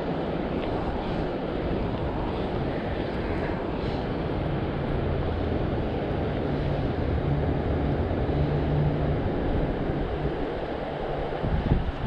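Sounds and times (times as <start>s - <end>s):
creek flowing over rocks: 0.0s - 12.0s.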